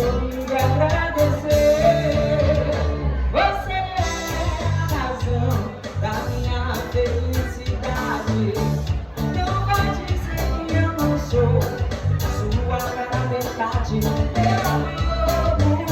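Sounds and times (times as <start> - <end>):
latin pop song with singing: 0.0 - 15.9.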